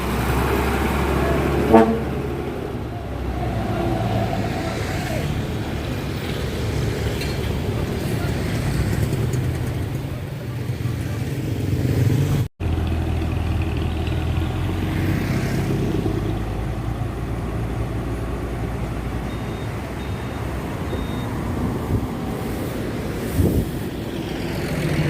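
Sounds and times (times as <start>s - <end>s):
bus diesel engine droning: 0.0s - 11.6s, 12.6s - 25.0s.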